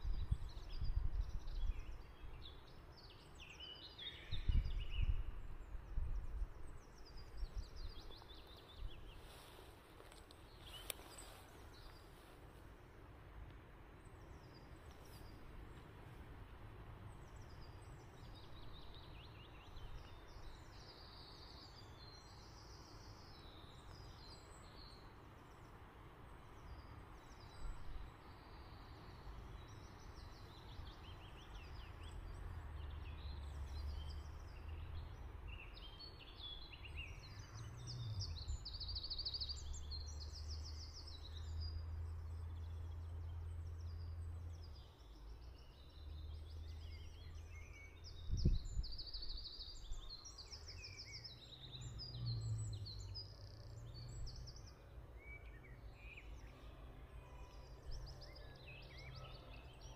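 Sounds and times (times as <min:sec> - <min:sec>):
small birds singing: 0:00.0 - 0:59.9.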